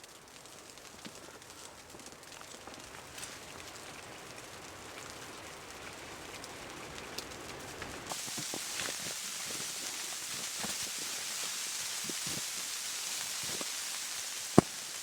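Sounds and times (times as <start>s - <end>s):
snow pattering hiss with ticks: 0.0s - 15.0s.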